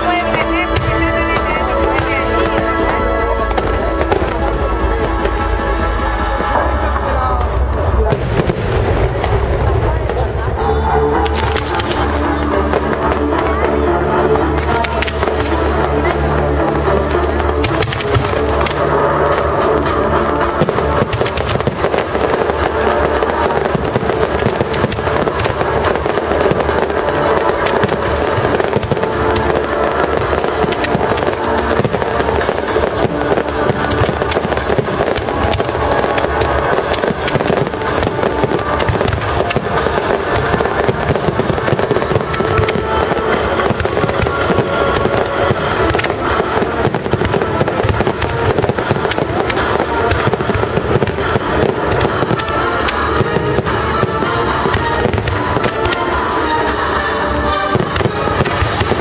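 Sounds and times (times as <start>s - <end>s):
fireworks crackling and popping: 0.0s - 59.0s
music playing: 0.0s - 59.0s.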